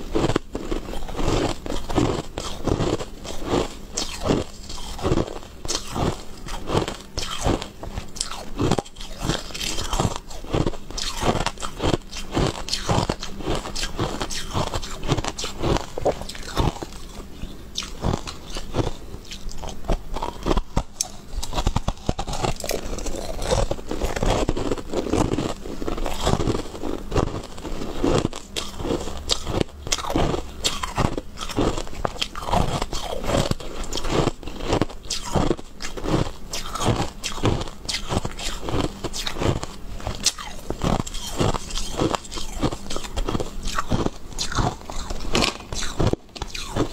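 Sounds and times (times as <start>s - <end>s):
crunchy chewing: 0.0s - 46.9s.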